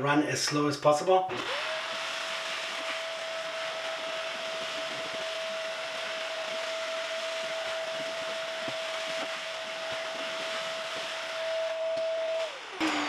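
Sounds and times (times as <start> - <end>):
handheld vacuum cleaner running: 1.3 - 13.0.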